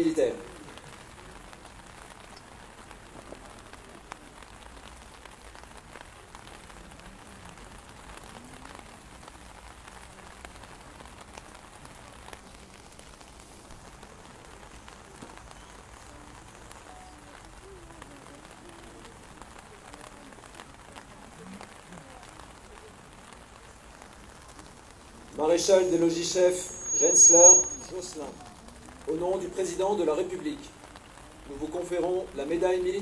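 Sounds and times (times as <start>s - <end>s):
rain drops ticking on umbrellas: 0.0s - 33.0s.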